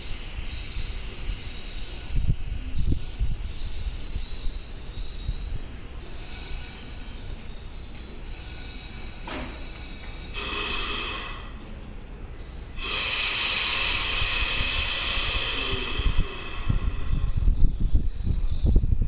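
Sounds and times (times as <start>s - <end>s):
compressed air hissing: 0.0s - 4.8s, 5.9s - 17.6s.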